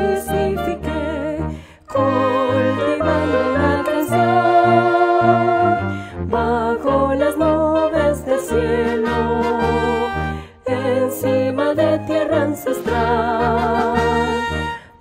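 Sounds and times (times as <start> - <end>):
instrumental accompaniment: 0.0 - 15.0
voices singing with vibrato: 0.0 - 15.0.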